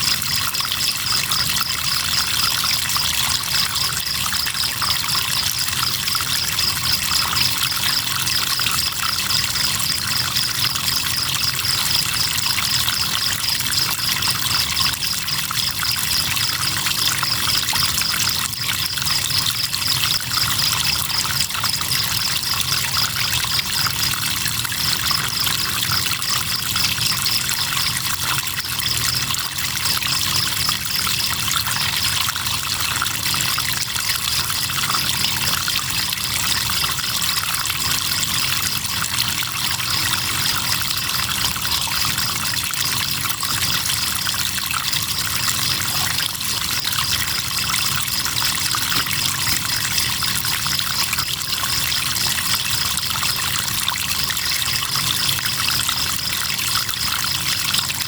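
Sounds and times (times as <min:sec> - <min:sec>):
crickets chirping: 0:00.0 - 0:58.0
river water trickling: 0:00.0 - 0:58.0.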